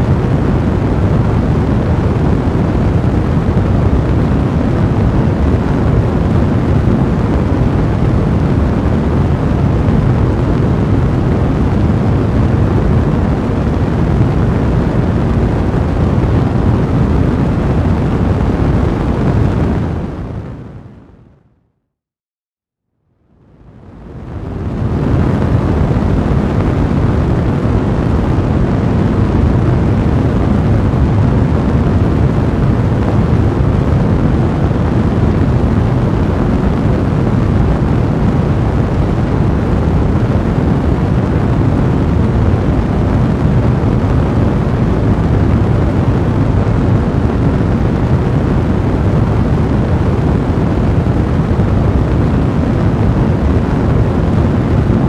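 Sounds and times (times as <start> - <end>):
fire roaring: 0.0 - 21.0, 23.6 - 55.0.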